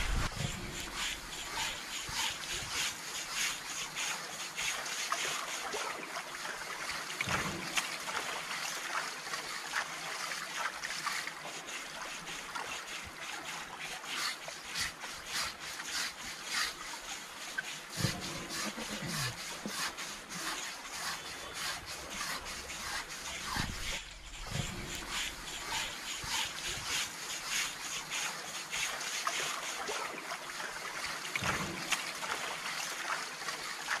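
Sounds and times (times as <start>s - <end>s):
scrubbing strokes: 0.0s - 34.0s
water splashing and trickling: 0.0s - 34.0s.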